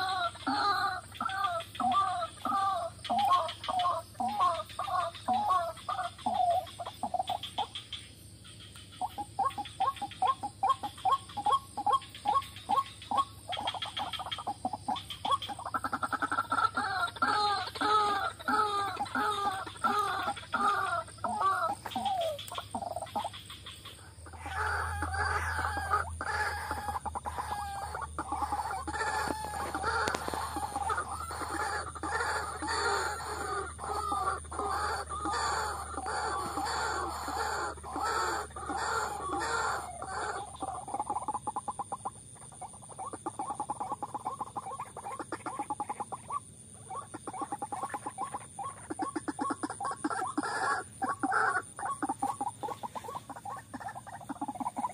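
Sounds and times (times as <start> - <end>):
bird repeated croaking calls: 0.0 - 54.9.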